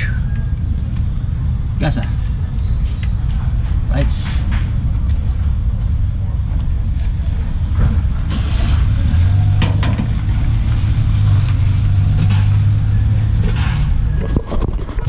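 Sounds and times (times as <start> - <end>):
low mechanical hum: 0.0 - 15.0
rumbling background: 0.0 - 15.0.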